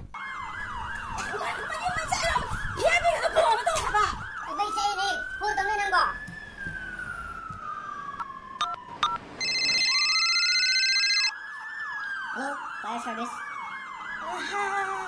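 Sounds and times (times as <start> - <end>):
siren wailing: 0.1 - 15.0.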